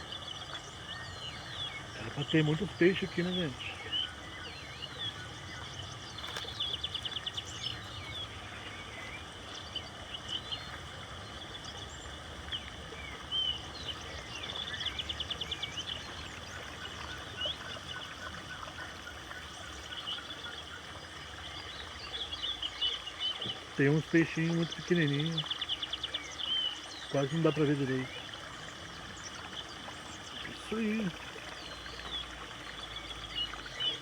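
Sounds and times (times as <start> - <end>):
birds singing and calling: 0.0 - 34.0.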